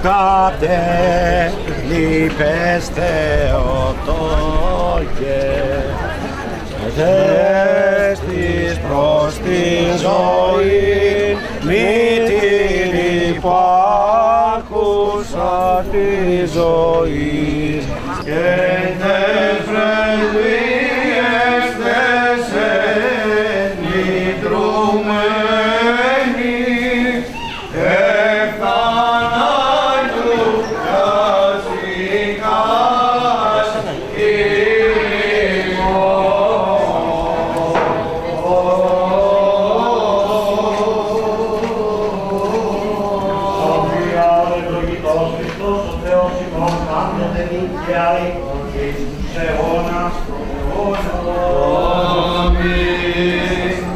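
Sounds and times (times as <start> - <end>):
low vocal drone: 0.0 - 53.9
men chanting: 0.0 - 53.9.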